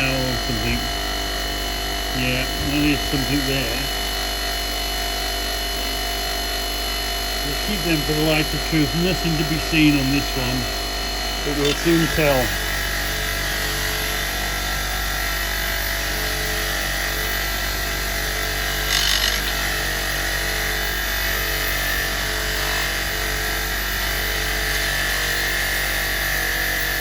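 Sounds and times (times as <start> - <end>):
electric power tool motor running: 0.0 - 27.0.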